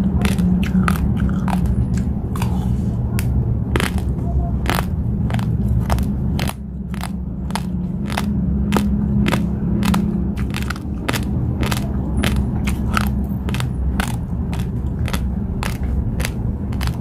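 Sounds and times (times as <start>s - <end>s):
raw rice crunching: 0.0s - 2.7s, 3.7s - 17.0s
steady low rumble: 0.0s - 17.0s.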